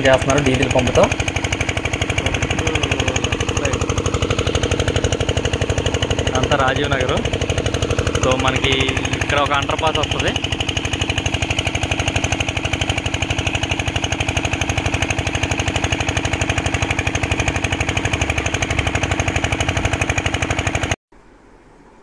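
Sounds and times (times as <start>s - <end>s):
small diesel pump engine running: 0.0s - 21.0s.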